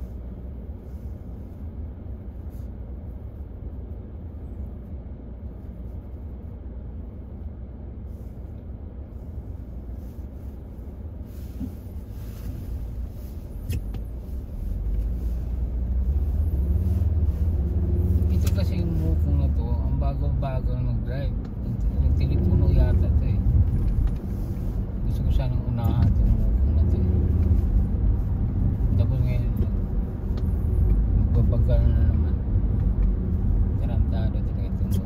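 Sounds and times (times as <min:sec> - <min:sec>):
car engine rumble inside cabin: 0:00.0 - 0:35.0.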